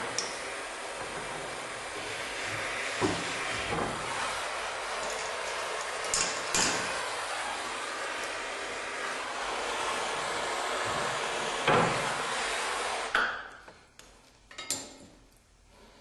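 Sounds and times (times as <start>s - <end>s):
torch flame hissing: 0.0s - 13.2s.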